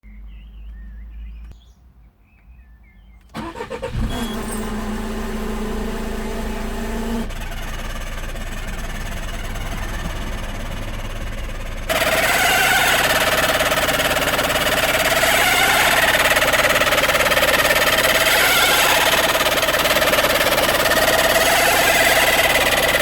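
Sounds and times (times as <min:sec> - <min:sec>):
car engine cranking and starting: 0:03.3 - 0:23.0
car engine running steadily: 0:03.4 - 0:23.0.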